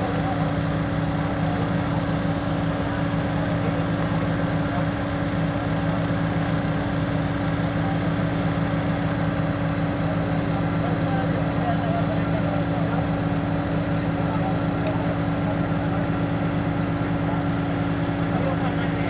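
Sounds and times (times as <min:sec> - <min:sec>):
drilling rig engine humming: 0:00.0 - 0:19.0.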